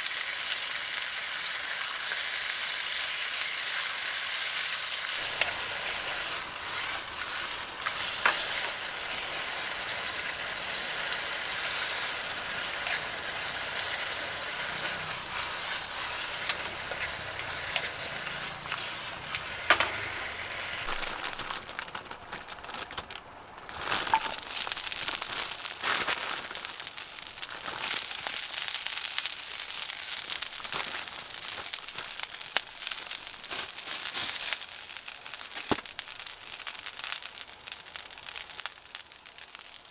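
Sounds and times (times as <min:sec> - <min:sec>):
food sizzling in a frying pan: 0:00.0 - 0:21.9, 0:23.8 - 0:39.9.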